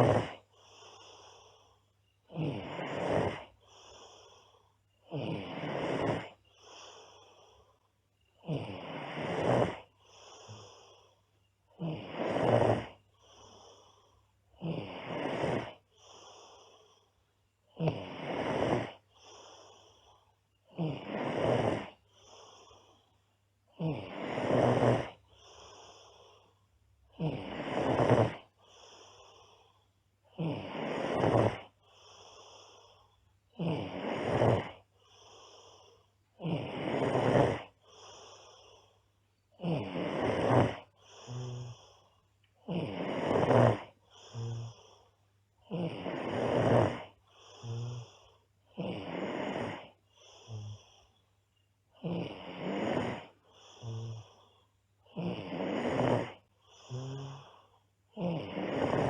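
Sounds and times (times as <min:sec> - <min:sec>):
girl snoring loudly: 0:00.0 - 0:01.6, 0:02.2 - 0:07.7, 0:08.4 - 0:23.0, 0:23.7 - 0:26.4, 0:27.1 - 0:29.7, 0:30.3 - 0:38.9, 0:39.6 - 0:42.0, 0:42.6 - 0:51.1, 0:51.9 - 0:59.0
soft breath: 0:00.0 - 0:59.0.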